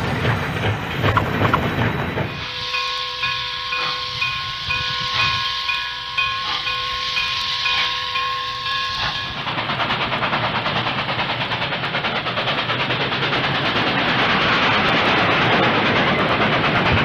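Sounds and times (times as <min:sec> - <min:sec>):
fast rhythmic train noise: 0:00.0 - 0:17.0.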